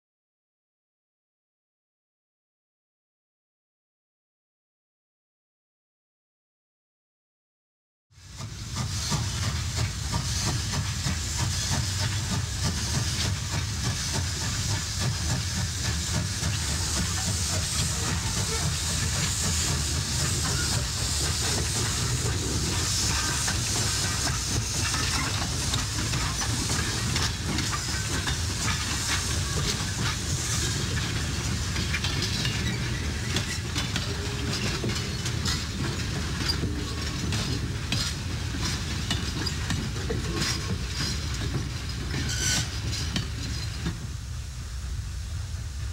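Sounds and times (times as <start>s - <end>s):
steam locomotive hissing: 8.2s - 45.9s.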